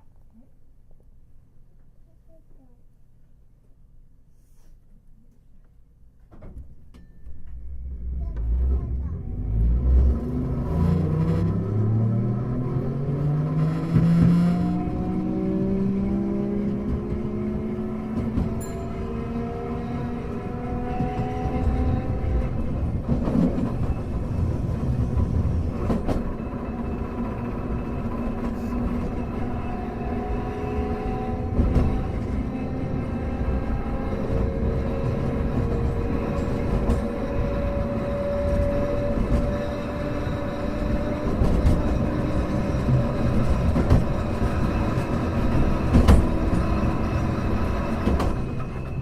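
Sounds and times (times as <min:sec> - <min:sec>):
wheels rumbling on rail: 0:06.5 - 0:49.0
tram motor whine: 0:07.4 - 0:49.0.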